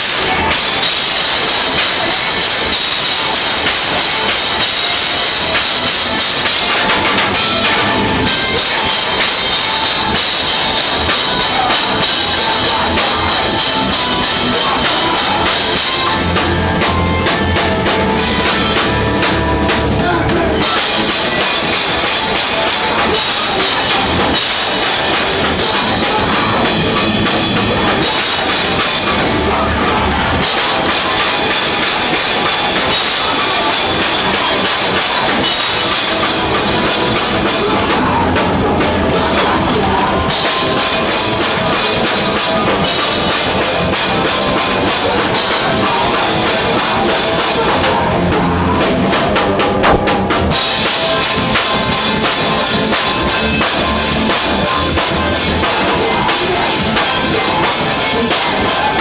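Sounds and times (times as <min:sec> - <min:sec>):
loud live rock band: 0:00.0 - 0:59.0.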